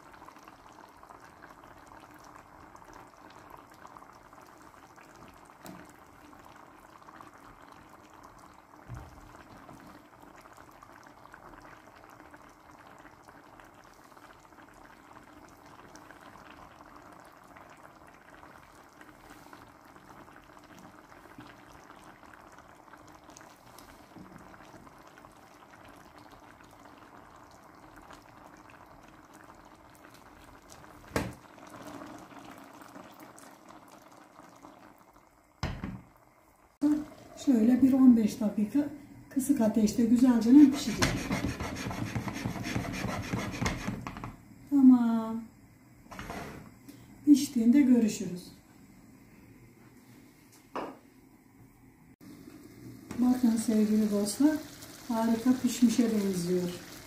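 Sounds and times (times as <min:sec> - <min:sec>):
broth bubbling in a pan: 0:00.0 - 0:50.1, 0:52.1 - 0:57.0.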